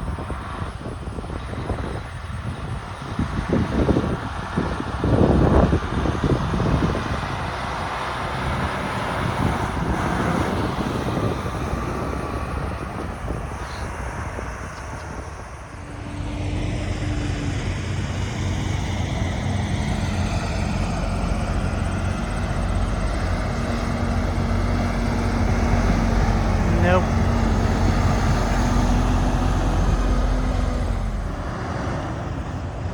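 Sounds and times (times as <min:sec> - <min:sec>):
diesel truck engines running: 0:00.0 - 0:32.9.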